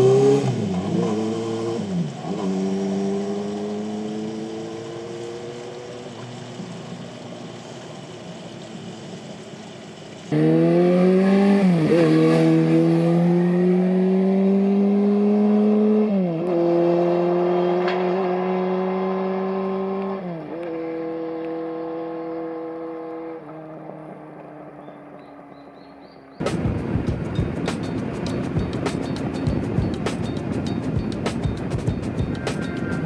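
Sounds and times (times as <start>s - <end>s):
motorcycle engine accelerating: 0.0s - 25.6s, 26.4s - 33.0s.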